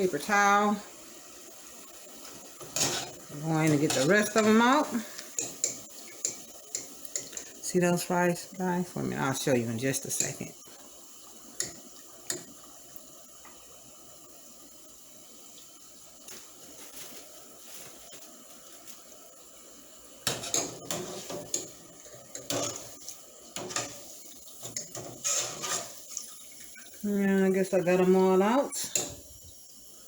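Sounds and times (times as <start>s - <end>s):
frying oil sizzling: 0.0s - 30.0s.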